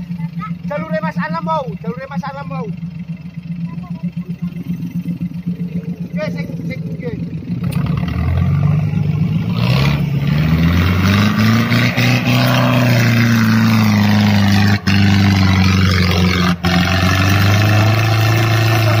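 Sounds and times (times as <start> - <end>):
engine running hard: 0.0 - 19.0.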